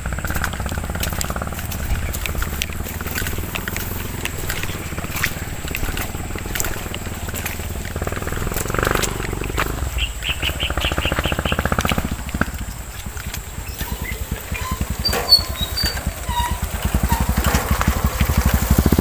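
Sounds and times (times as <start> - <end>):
pulsing animal call: 0.0 - 19.0
scattered clicks: 0.0 - 19.0
steady low rumble: 0.0 - 19.0
high chirps: 0.7 - 17.4.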